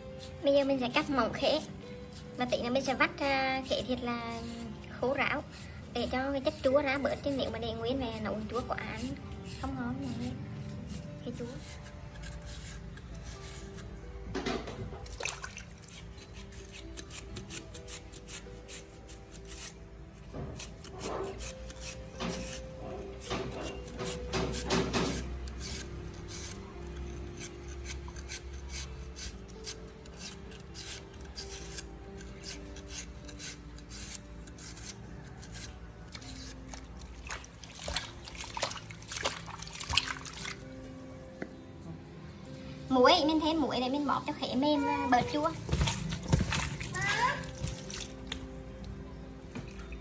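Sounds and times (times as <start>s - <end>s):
knife slicing fruit: 0.0s - 40.6s, 45.2s - 48.5s.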